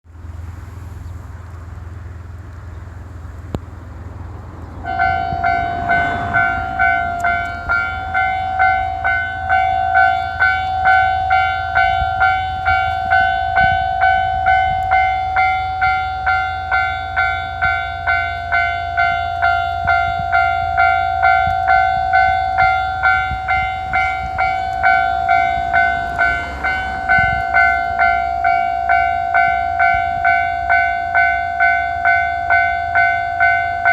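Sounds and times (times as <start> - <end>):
distant tractor hum: 0.1 - 33.9
level crossing warning bell ringing: 4.8 - 33.9.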